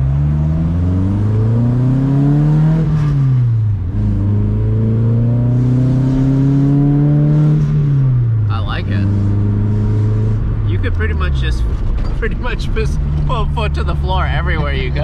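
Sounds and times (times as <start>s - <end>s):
car engine accelerating through gears: 0.0s - 15.0s.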